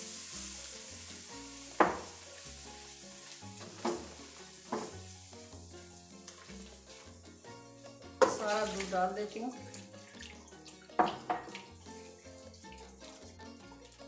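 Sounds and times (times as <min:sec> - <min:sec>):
roux sizzling in a wok: 0:00.0 - 0:14.0.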